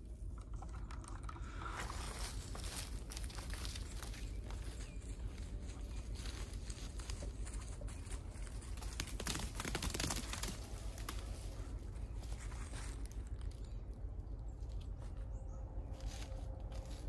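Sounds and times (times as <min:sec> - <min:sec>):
dry leaves and twigs crunching: 0:01.0 - 0:17.0.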